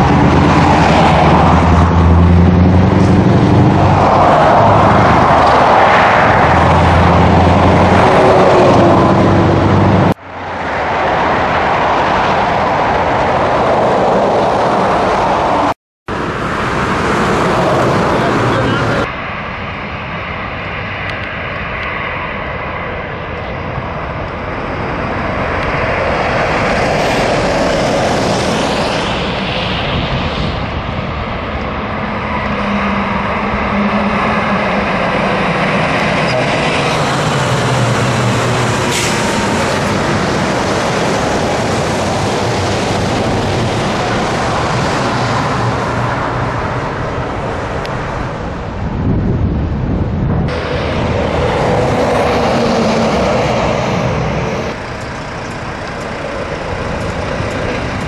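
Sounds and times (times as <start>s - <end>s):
diesel truck engine: 0.0s - 58.0s
road and tyre noise: 0.0s - 58.0s.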